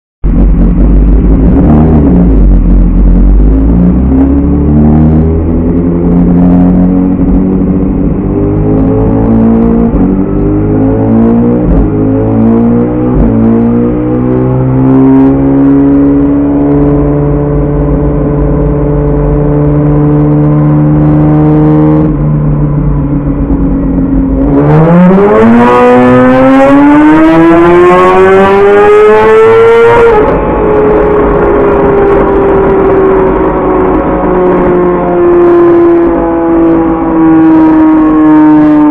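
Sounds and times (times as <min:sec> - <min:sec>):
motorcycle engine revving: 0:00.2 - 0:38.9.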